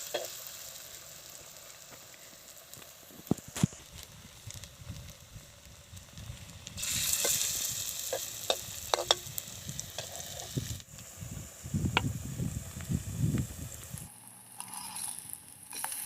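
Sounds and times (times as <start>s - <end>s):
batter frying in hot oil: 0.0s - 16.0s.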